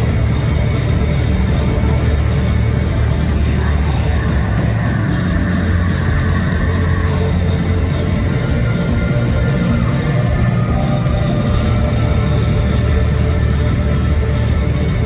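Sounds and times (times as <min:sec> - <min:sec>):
distorted electric guitar: 0:00.0 - 0:15.0
heavy bass: 0:00.0 - 0:15.0.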